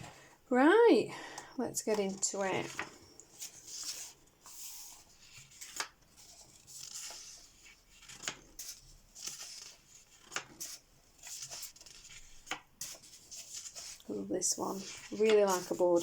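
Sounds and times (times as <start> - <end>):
pages turning and rustling: 1.9 - 16.0.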